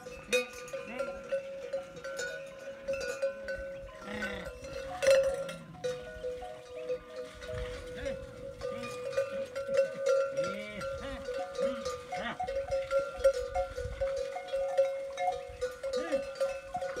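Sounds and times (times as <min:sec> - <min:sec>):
metal bells clanking: 0:00.0 - 0:17.0
camels calling: 0:00.2 - 0:17.0.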